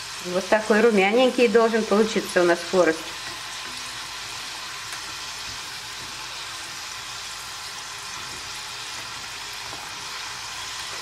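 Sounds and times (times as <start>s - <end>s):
dough sizzling in hot oil: 0.0s - 11.0s.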